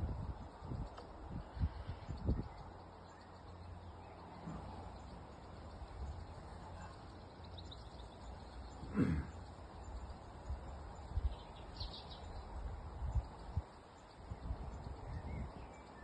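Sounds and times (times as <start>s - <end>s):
distant traffic rumble: 0.0s - 16.0s
faint birdsong: 0.0s - 16.0s.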